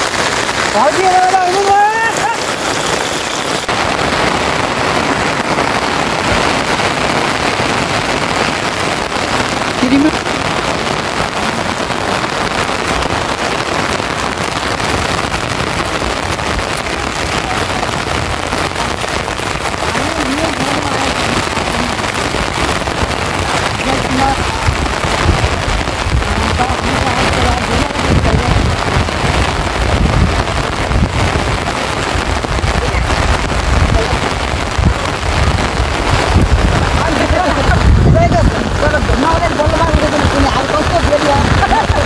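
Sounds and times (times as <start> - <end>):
heavy rain falling: 0.0 - 42.0
wind gusts buffeting microphone: 3.6 - 42.0.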